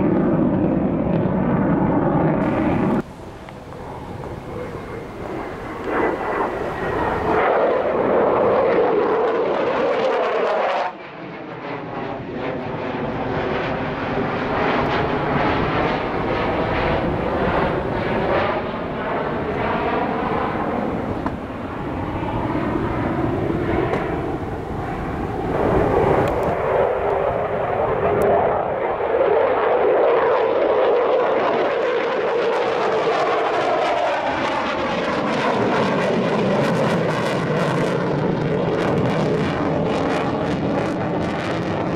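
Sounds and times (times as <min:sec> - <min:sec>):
fighter jet roar: 0:00.0 - 0:41.9.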